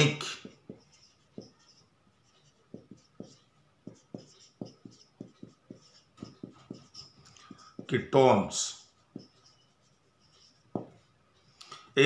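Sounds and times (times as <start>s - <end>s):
marker writing on whiteboard: 0.0s - 11.2s.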